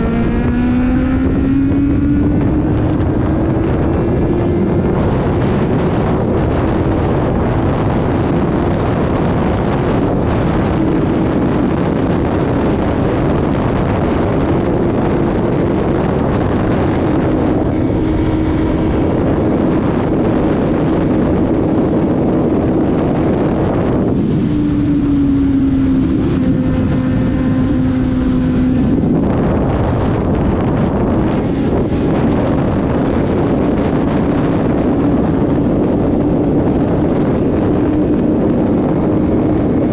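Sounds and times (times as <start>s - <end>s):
motorcycle engine running: 0.0s - 39.9s
wind rush over microphone: 0.0s - 39.9s.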